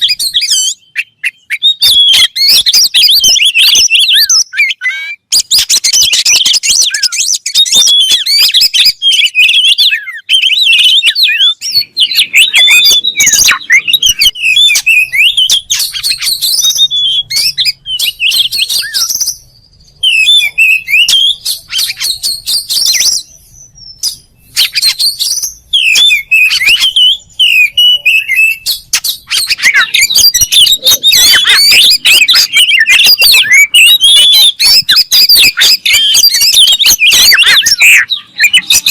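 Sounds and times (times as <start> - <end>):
magpie-robin singing: 0.0 - 38.9.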